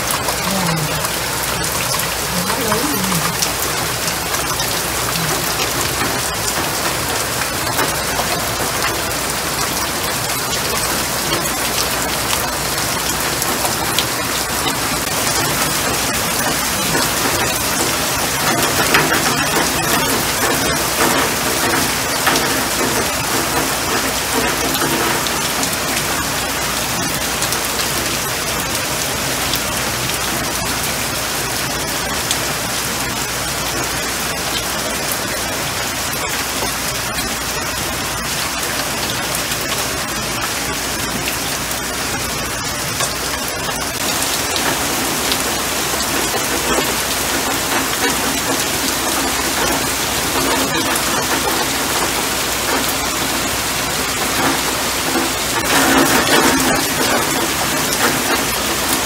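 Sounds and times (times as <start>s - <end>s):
rain falling on leafy plants: 0.0s - 59.0s.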